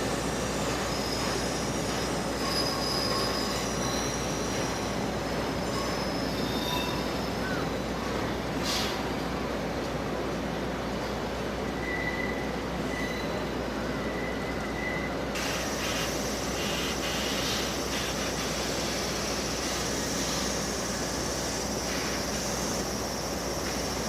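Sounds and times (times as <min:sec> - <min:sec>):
freight train rumble: 0:00.0 - 0:24.0.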